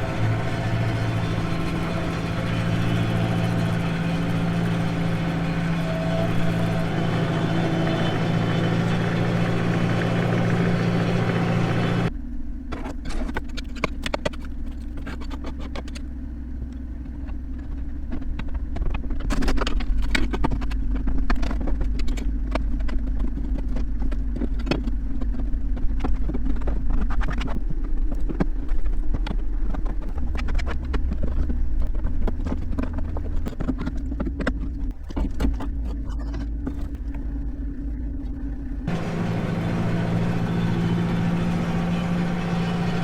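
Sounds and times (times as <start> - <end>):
engine running steadily: 0.0 - 43.0.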